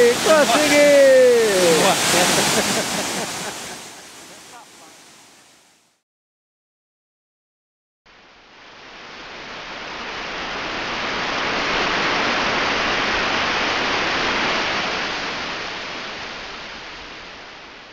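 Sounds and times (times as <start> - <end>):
waterfall rushing: 0.0 - 5.6, 8.7 - 17.8.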